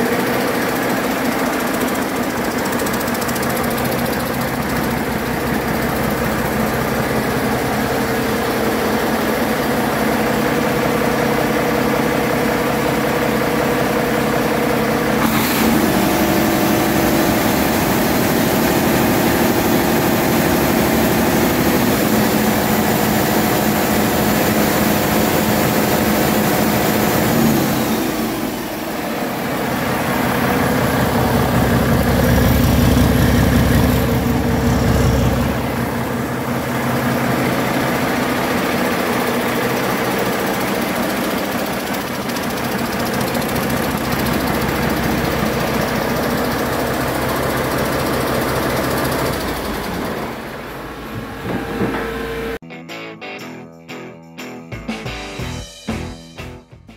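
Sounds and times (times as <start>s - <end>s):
diesel truck engine running: 0.0s - 52.6s.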